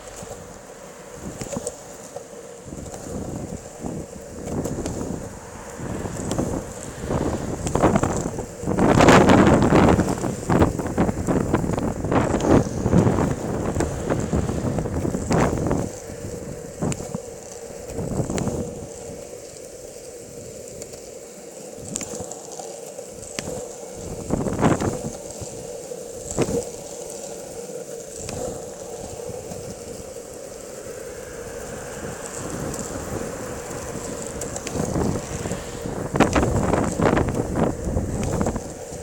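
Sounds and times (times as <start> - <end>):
wind buffeting microphone: 0.0 - 22.3, 23.0 - 39.0
wheels rolling on asphalt: 0.0 - 39.0.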